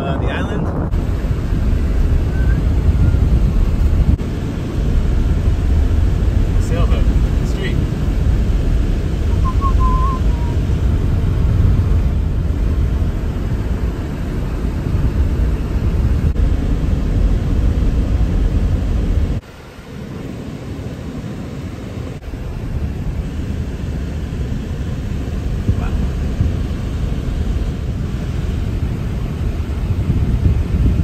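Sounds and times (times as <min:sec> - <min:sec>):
wind on microphone: 0:00.0 - 0:19.4, 0:20.4 - 0:31.0
road rumble from driving car: 0:00.0 - 0:31.0.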